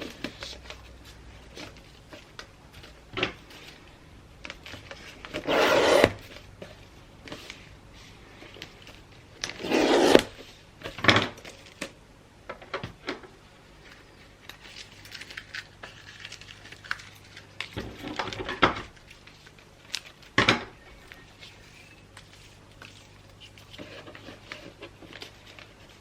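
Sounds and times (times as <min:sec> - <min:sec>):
paper rustling and crinkling: 0:00.0 - 0:12.0, 0:13.1 - 0:26.0.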